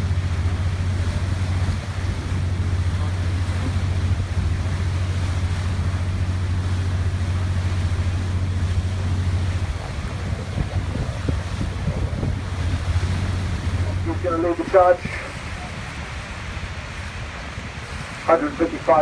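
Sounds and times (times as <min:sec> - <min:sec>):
boat engine droning: 0:00.0 - 0:19.0
water rushing: 0:00.0 - 0:19.0
wind on microphone: 0:00.0 - 0:19.0.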